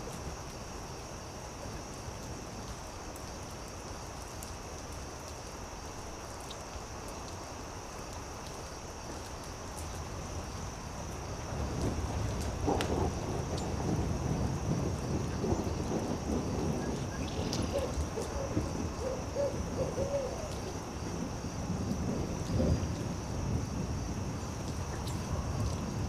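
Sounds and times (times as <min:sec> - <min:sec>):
campfire crackling: 0:00.0 - 0:26.0
insects chirring: 0:00.0 - 0:26.0.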